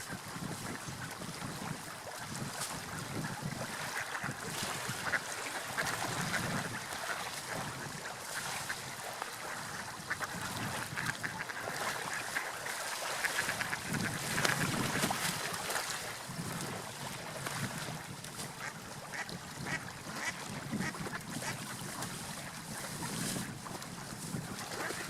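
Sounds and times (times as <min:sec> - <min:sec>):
sea waves washing: 0:00.0 - 0:25.0
wind: 0:00.0 - 0:25.0.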